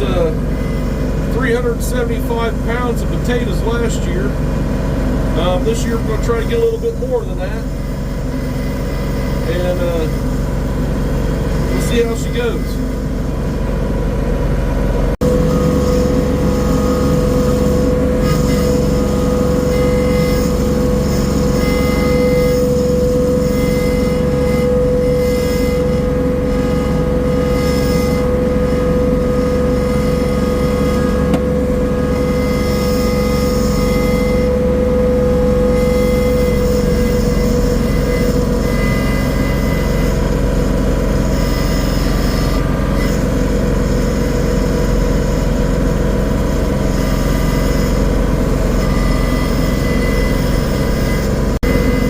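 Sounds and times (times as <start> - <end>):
tiller engine running: 0.0 - 52.0.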